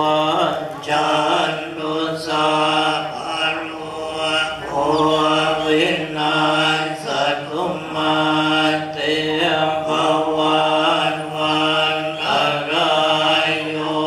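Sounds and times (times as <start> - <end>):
monks chanting: 0.0 - 14.0.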